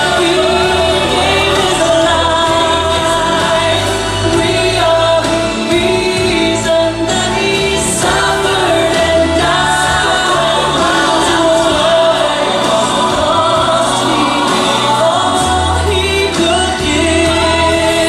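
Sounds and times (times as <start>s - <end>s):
choir singing: 0.0s - 18.0s
instrumental accompaniment: 0.0s - 18.0s.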